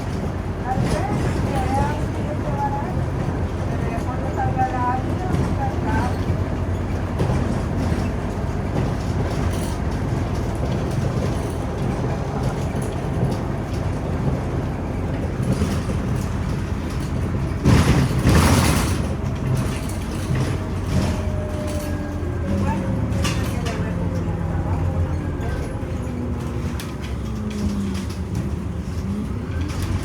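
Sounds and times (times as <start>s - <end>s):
bus engine drone: 0.0s - 30.0s.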